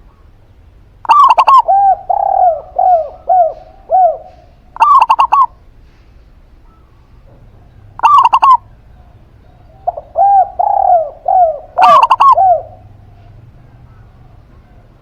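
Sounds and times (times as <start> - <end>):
dove cooing low soft notes: 0.0 - 15.0
dove ringing coo notes: 1.0 - 6.0, 6.6 - 15.0.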